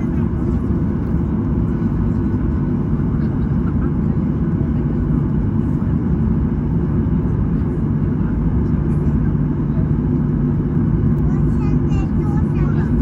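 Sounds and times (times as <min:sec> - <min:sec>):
aircraft rolling: 0:00.0 - 0:13.0
jet engines rumbling in cabin: 0:00.0 - 0:13.0.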